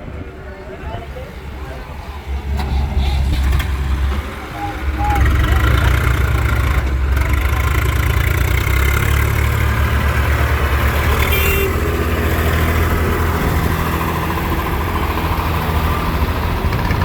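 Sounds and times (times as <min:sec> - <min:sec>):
diesel engine idling: 0:01.1 - 0:17.0.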